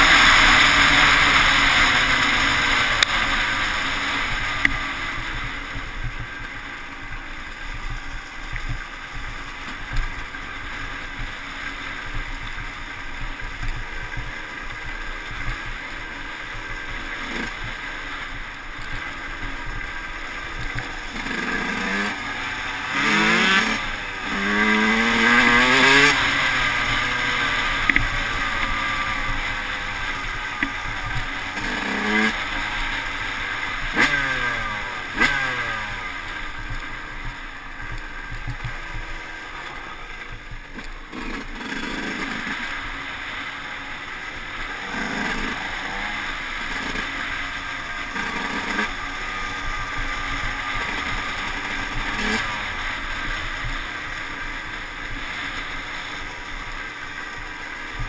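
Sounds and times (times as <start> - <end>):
motorcycle engine revving: 0.0 - 58.0
steady rushing noise: 0.0 - 58.0.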